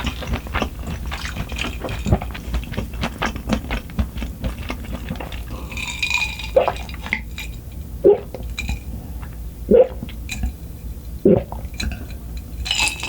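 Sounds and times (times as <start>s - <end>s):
chewing with wet clicks: 0.0s - 13.0s
liquid trickling: 0.0s - 13.0s.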